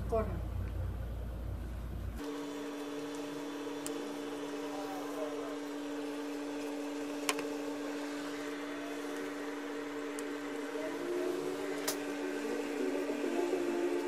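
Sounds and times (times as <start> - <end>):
electric motor hum: 2.2 - 14.0.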